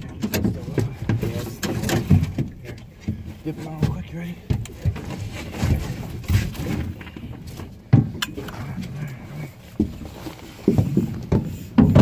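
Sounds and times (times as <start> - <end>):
knocks and thumps aboard boat: 0.0 - 12.0.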